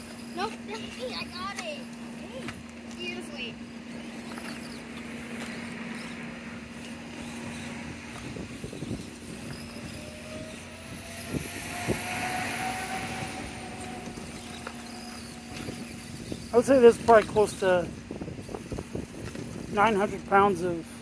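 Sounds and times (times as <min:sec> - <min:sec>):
electric motor and gears whining: 0:00.0 - 0:21.0
steady low hum: 0:00.0 - 0:21.0.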